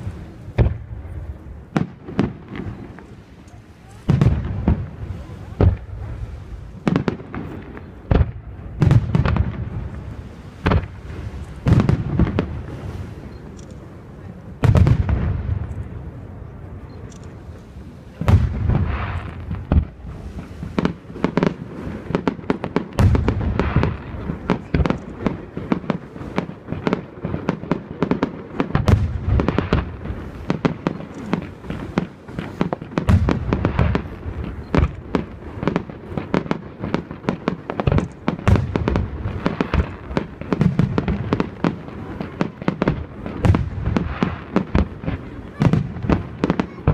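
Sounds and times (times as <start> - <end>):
crackling fireworks stars: 0.0 - 46.9
fireworks booming: 0.0 - 46.9.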